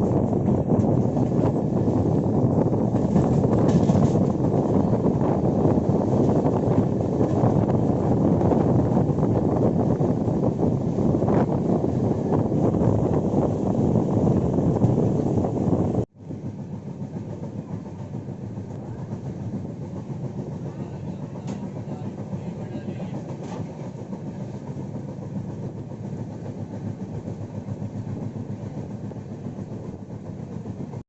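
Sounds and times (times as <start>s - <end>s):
train wheels on track: 0.0s - 31.0s.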